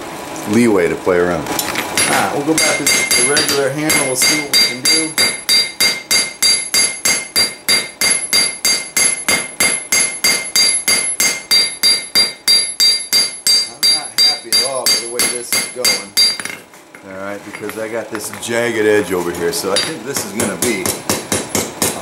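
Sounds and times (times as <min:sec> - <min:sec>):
hammer striking hot metal on anvil: 0:02.0 - 0:16.6, 0:17.5 - 0:18.4, 0:19.7 - 0:22.0.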